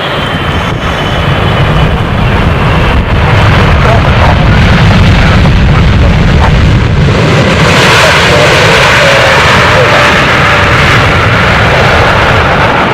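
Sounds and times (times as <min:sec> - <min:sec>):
jet engine rumble: 0:00.0 - 0:12.9
wind buffeting microphone: 0:00.0 - 0:12.9.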